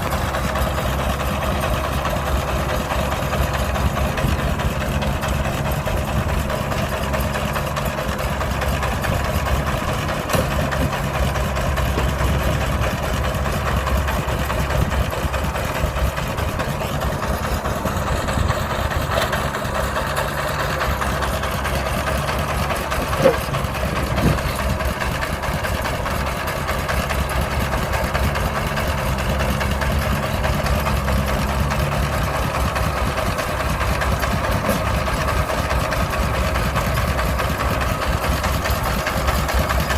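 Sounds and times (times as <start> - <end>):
heavy machinery engine running: 0.0 - 39.9.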